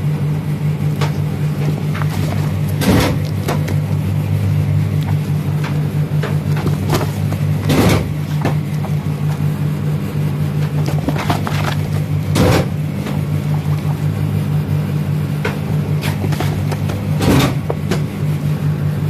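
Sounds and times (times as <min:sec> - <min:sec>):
low machine hum: 0:00.0 - 0:19.0
booklet pages rustling: 0:00.9 - 0:14.3, 0:15.6 - 0:17.9.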